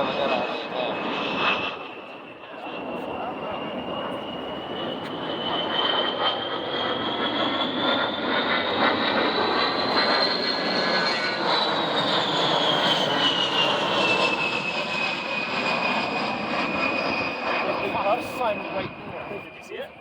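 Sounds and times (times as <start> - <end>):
jet engines passing low: 0.0 - 20.0.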